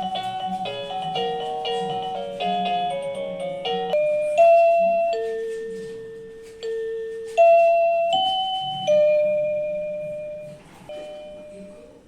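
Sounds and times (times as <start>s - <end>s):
electronic door chime ding-dong: 0.0s - 12.0s.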